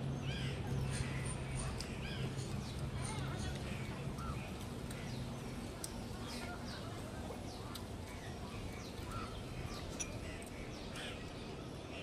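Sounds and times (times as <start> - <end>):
low background noise: 0.0 - 12.0
birds chirping: 0.1 - 12.0.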